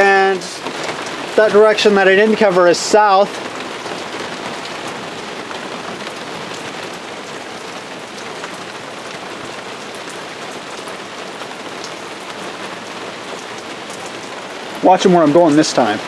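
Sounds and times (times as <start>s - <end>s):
heavy rain pouring: 0.0s - 16.0s
raindrop ticks: 0.0s - 16.0s.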